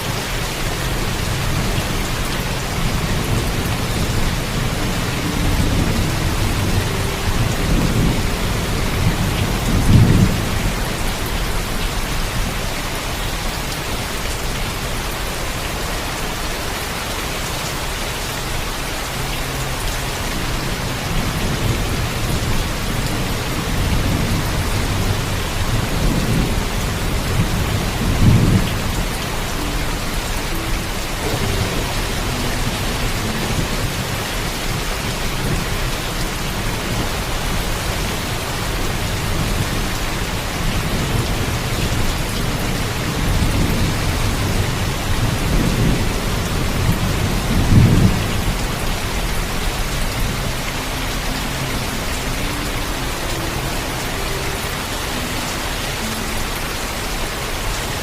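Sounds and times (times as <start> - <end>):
heavy steady rain: 0.0 - 58.0.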